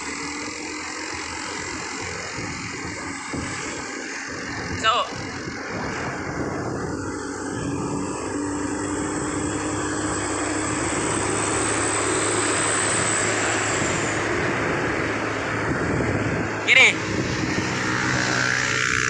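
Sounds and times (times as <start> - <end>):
truck engine drone: 0.0 - 19.0.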